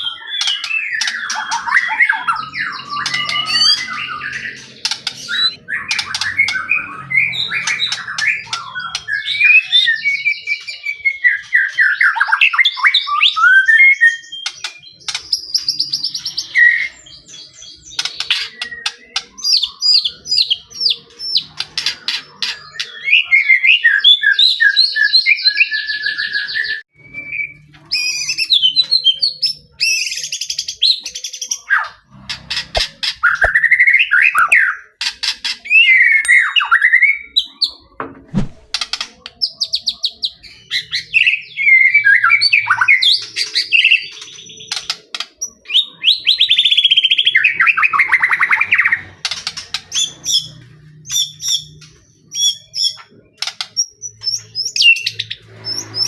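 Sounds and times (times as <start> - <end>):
bird singing fluty whistles and trills: 0.0 - 32.0, 32.8 - 35.0, 35.6 - 38.0, 39.4 - 56.0.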